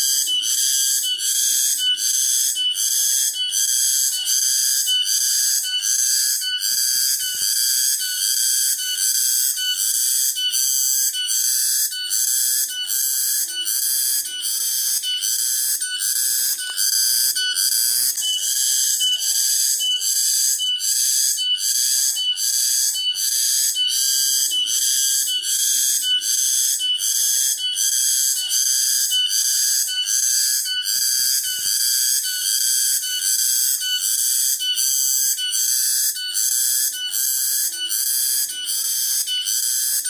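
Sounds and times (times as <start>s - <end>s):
cicadas pulsing drone: 0.0s - 40.0s.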